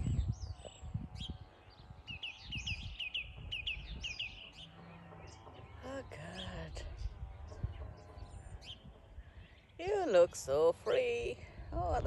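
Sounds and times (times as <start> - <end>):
bird chirping: 0.0 - 9.8.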